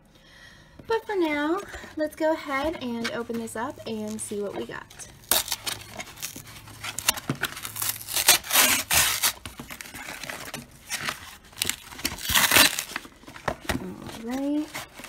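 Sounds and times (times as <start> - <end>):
cardboard tearing: 2.5 - 15.0.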